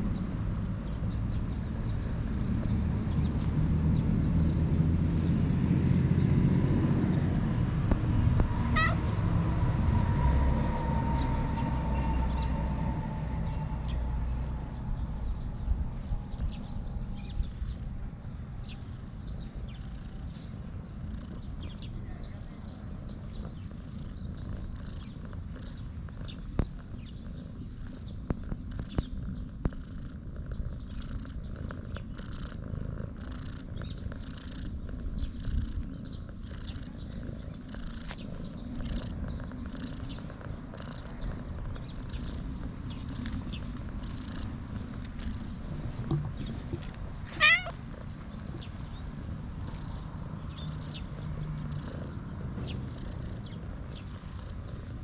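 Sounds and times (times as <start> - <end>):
cat purring: 0.0 - 10.0, 11.1 - 55.0.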